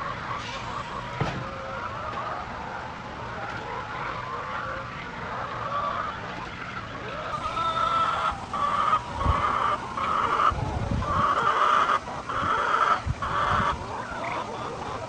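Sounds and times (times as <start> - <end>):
hens squawking and clucking: 0.0 - 15.0.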